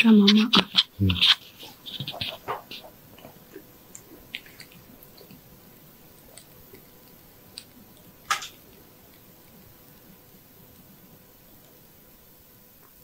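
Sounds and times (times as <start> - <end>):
scratching inside ear canal: 0.2 - 11.8.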